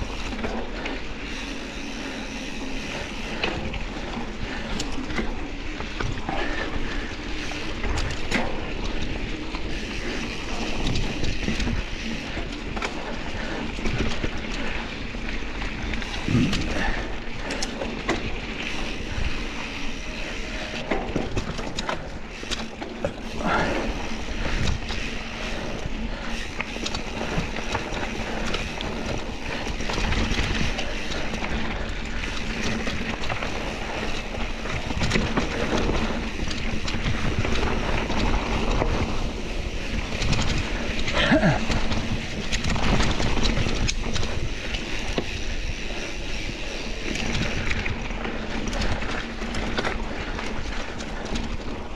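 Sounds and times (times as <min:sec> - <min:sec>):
bike rattling and knocking: 0:00.0 - 0:51.9
bike tyres over dirt and rocks: 0:00.0 - 0:51.9.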